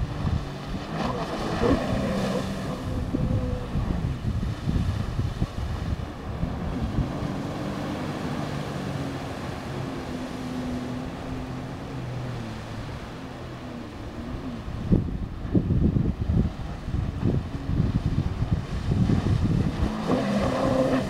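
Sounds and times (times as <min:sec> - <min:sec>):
jet ski engine running: 0:00.0 - 0:21.0
water and wind hiss: 0:00.0 - 0:21.0.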